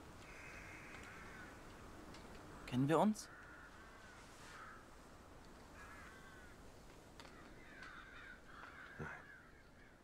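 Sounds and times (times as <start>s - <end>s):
crows cawing: 0.1s - 10.0s.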